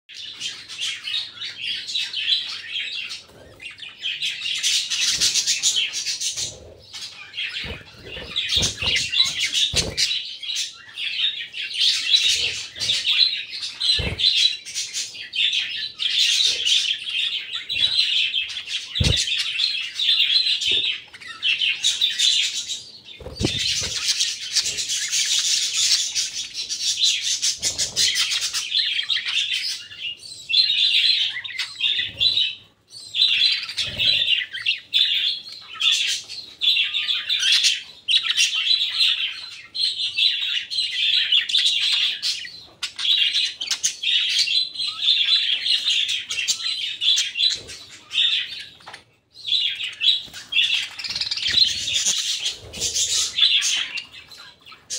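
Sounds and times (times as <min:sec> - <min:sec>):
budgerigars chattering and warbling: 0:00.1 - 0:54.9.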